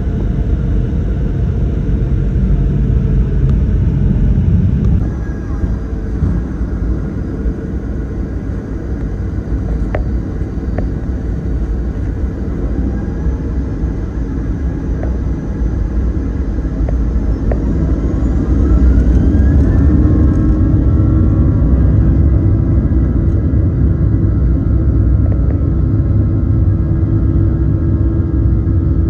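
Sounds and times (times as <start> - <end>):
jet engines rumbling: 0.0 - 29.0
rising engine whine: 0.0 - 29.0.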